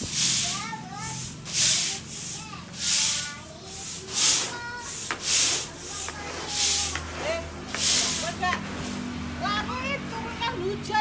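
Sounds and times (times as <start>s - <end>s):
broom sweeping grain on stone: 0.0s - 9.1s.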